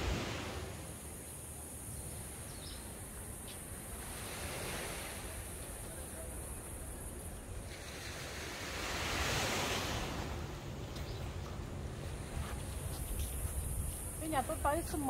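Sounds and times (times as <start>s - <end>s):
ocean surf washing ashore: 0.0s - 15.0s
steady high-pitched hiss: 0.0s - 15.0s.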